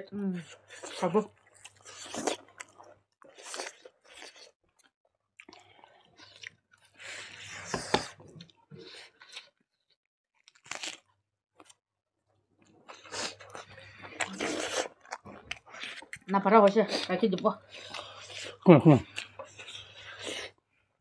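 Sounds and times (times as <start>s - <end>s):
chewing and crunching food: 0.1s - 21.0s.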